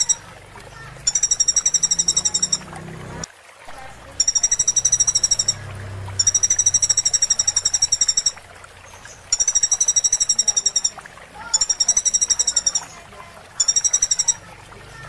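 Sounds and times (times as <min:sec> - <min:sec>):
bird trilling: 0:00.0 - 0:03.2, 0:03.8 - 0:14.6.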